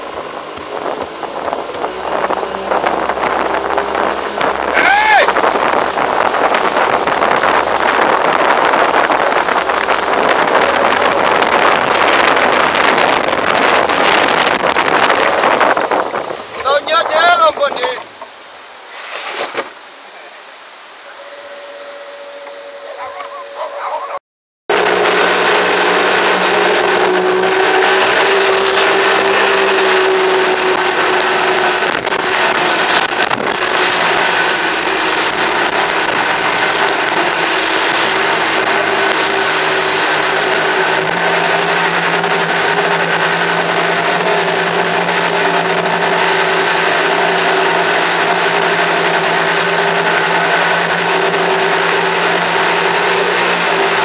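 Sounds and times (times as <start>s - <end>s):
wind rushing: 0.0s - 19.4s, 24.7s - 54.0s
outboard motor running: 0.0s - 19.6s, 21.1s - 54.0s
churning wake water: 0.0s - 54.0s.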